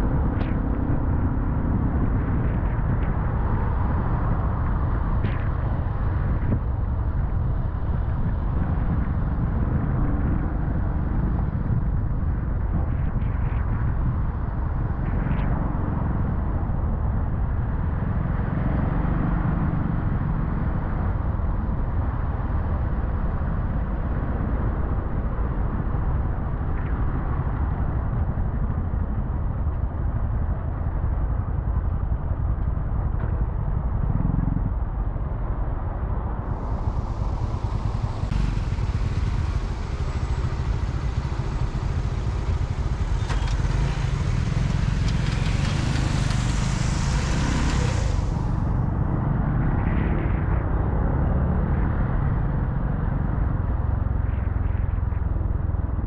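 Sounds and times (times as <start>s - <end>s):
road vehicle rumble: 0.0s - 56.0s.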